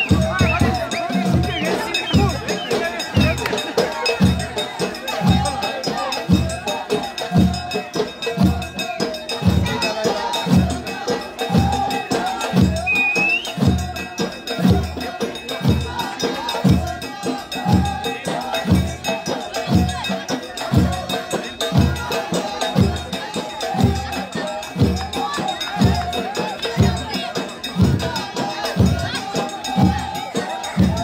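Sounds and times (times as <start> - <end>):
chorus singing: 0.0 - 31.0
frame drums beating: 0.0 - 31.0.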